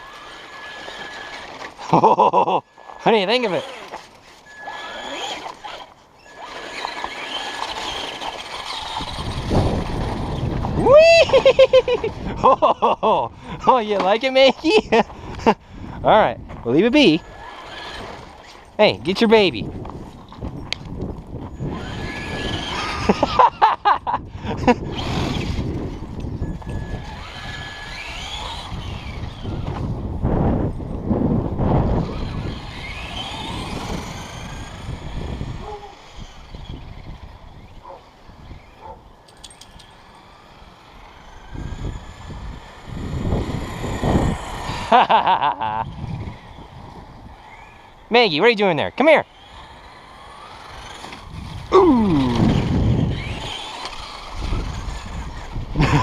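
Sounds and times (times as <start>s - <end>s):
electric motor whine: 0.0s - 2.0s, 2.7s - 12.4s, 16.4s - 23.6s, 24.2s - 48.1s, 49.2s - 56.0s
gear and tyre noise: 0.0s - 56.0s.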